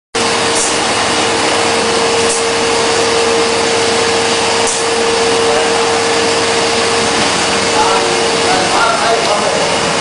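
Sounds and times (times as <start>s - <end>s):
constant machine hum: 0.2s - 10.0s
machine rushing hiss: 0.3s - 10.0s.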